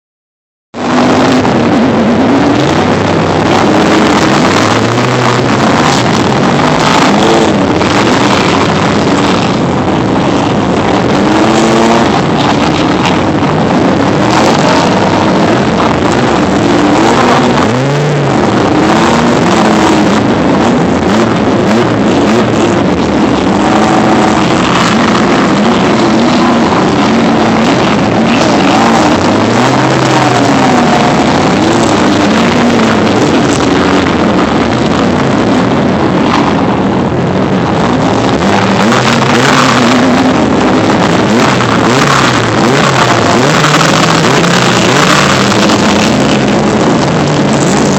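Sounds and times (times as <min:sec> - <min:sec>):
truck engine revving: 0:00.7 - 0:47.9.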